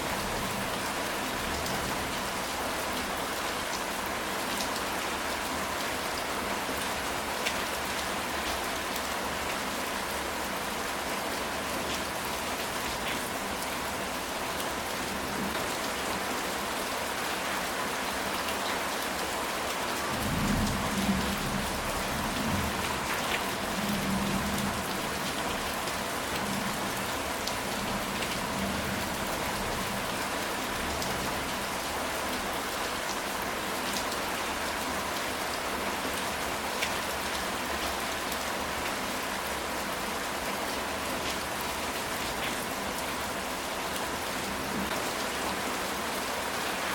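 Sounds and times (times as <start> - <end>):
rain on a tile roof: 0.0 - 46.9.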